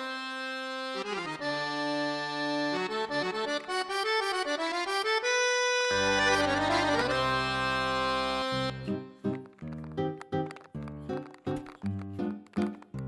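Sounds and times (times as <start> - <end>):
accordion music: 0.0 - 13.0.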